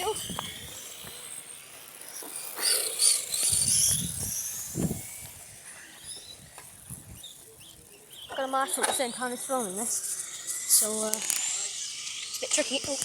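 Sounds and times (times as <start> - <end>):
radio-controlled car motors whining: 0.0 - 13.0.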